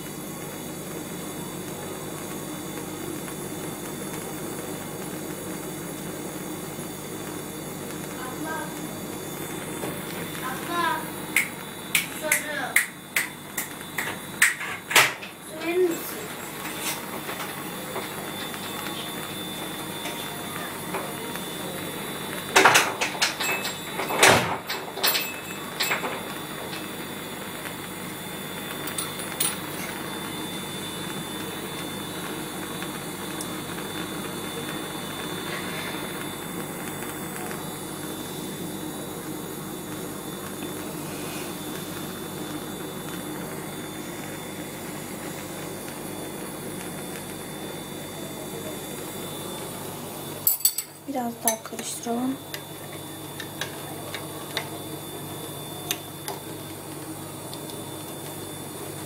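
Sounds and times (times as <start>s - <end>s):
gas burner rushing: 0.0s - 59.0s.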